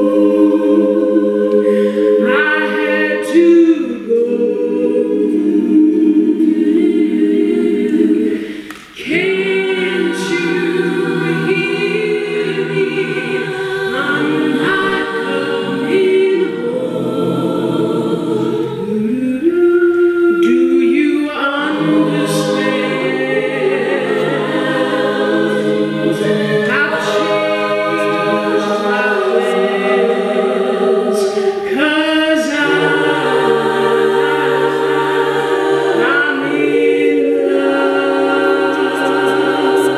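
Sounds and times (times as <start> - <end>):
a cappella group singing: 0.0 - 39.9.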